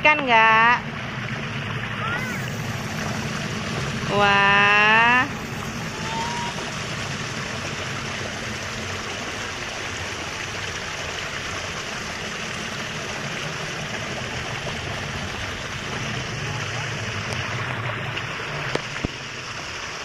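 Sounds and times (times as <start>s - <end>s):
water rushing through channel: 0.0s - 20.0s.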